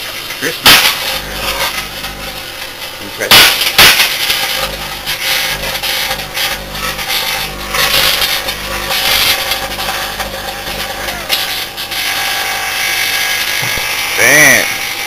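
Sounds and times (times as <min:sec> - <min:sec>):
crackling sparks arcing: 0:00.0 - 0:15.0
microwave oven humming: 0:00.0 - 0:15.0.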